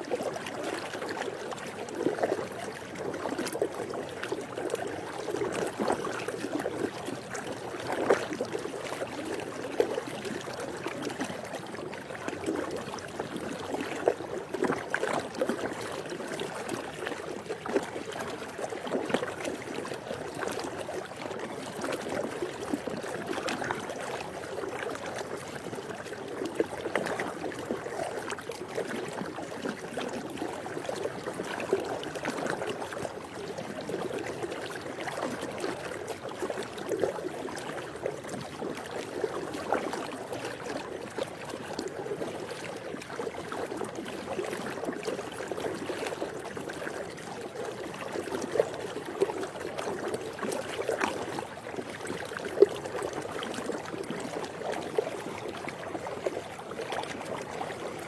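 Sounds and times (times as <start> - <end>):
pool water sloshing and splashing: 0.0 - 58.0.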